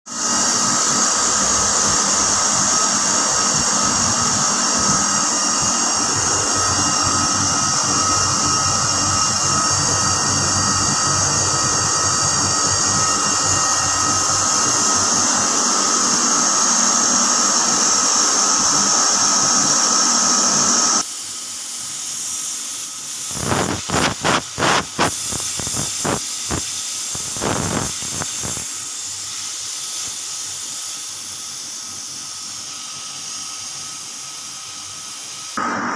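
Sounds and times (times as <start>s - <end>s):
compressor high-pitched whining: 0.1s - 35.9s.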